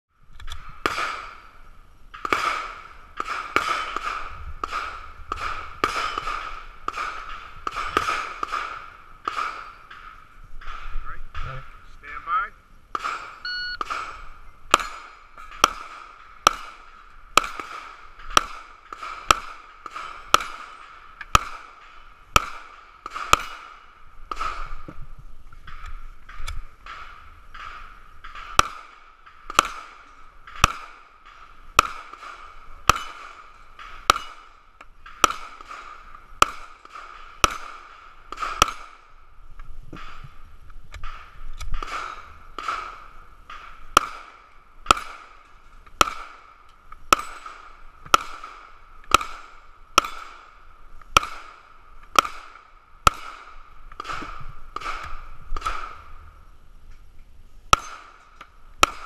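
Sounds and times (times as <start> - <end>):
pistol shots: 0.5 - 11.4, 12.9 - 24.9, 25.7 - 39.2, 41.0 - 56.3, 57.7 - 59.0.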